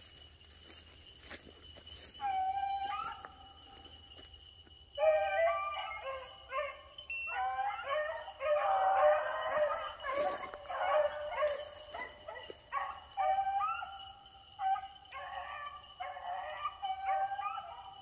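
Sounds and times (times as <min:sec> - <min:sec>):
beagles baying: 0:00.1 - 0:04.4, 0:05.0 - 0:18.0.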